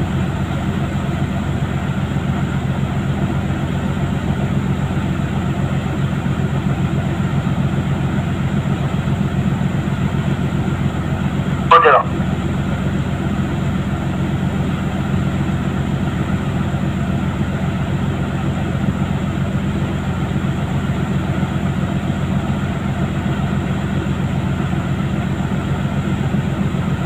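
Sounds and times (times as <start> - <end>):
boat engine drone: 0.0 - 27.0.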